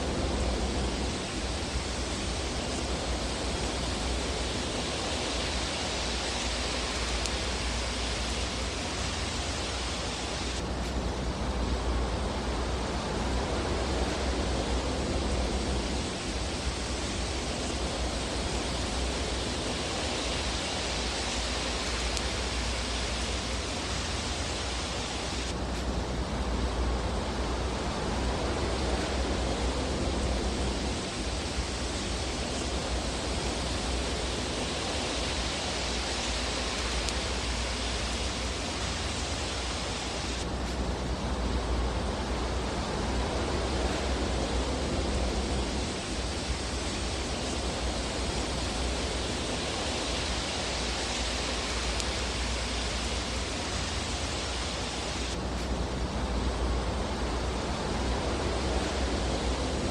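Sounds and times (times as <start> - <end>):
fire burning with rushing hiss: 0.0 - 59.9.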